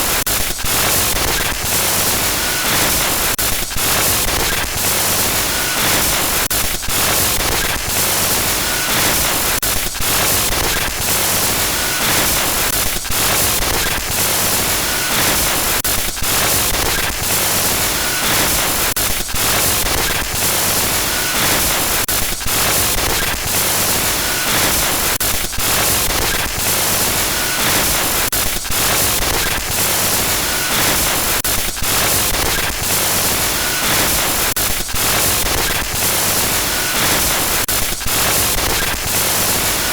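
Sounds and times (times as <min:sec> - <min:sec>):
static glitch hiss: 0:00.0 - 0:39.9.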